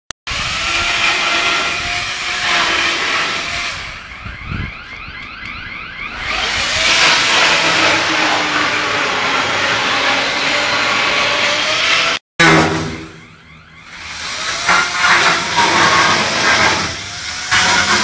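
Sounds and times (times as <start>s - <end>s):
power saw cutting insulation: 0.3s - 4.1s, 6.0s - 18.0s.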